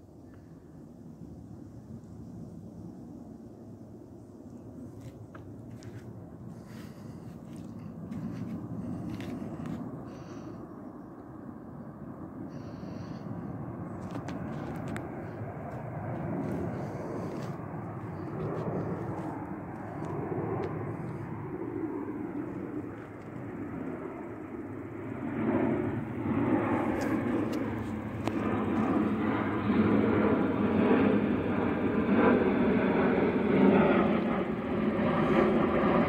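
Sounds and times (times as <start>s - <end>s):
jet airliner rumbling overhead: 0.0s - 36.0s.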